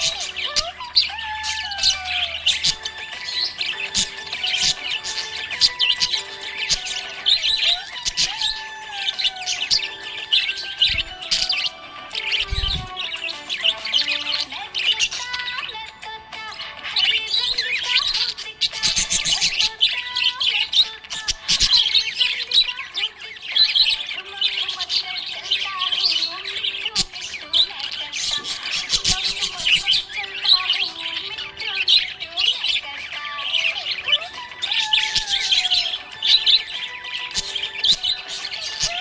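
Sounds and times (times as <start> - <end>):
parrots chirping and squawking: 0.0 - 39.0.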